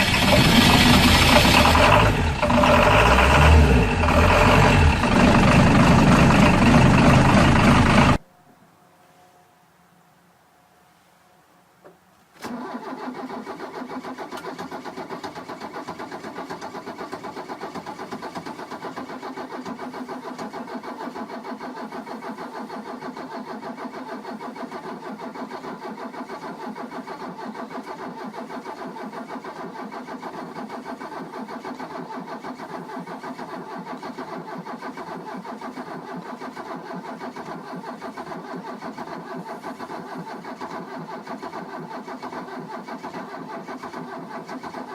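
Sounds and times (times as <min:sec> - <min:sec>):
diesel engine starting and idling: 0:00.0 - 0:08.2, 0:12.4 - 0:44.9.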